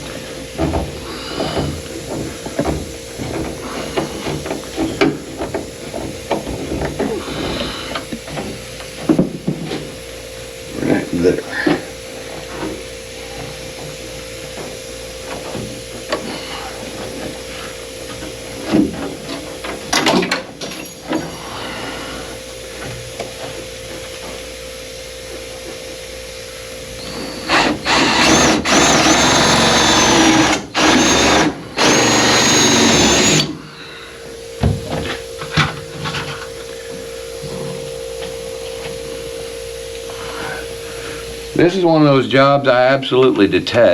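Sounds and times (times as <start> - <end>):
power drill whining: 0.0 - 24.5, 26.5 - 39.2.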